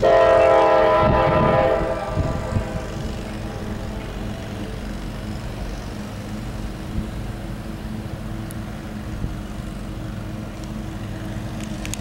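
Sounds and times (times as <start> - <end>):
diesel locomotive engines rumbling: 0.0 - 12.0.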